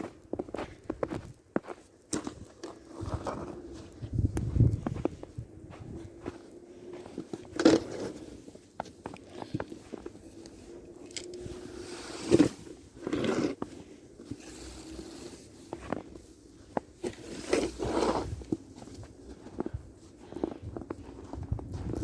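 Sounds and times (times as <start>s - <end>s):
crunching and scraping in snow: 0.0s - 22.0s.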